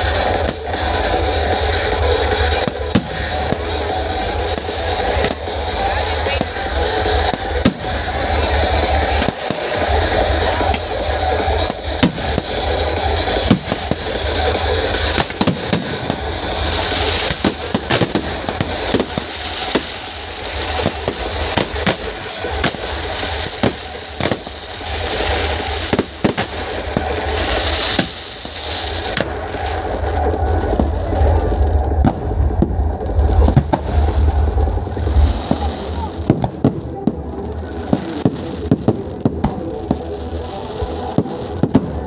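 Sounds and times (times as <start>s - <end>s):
crackling hiss: 0.0s - 42.0s
fireworks bangs and cracks: 0.0s - 42.0s.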